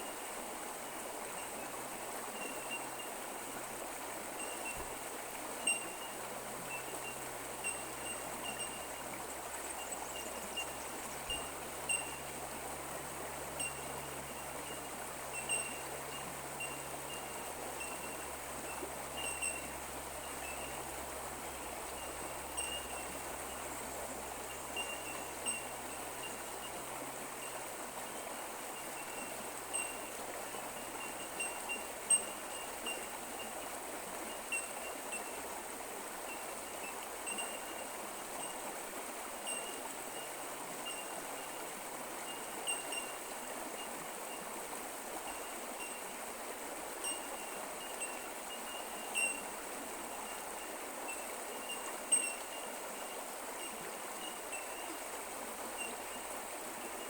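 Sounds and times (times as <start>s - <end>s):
creek water trickling: 0.0s - 57.0s.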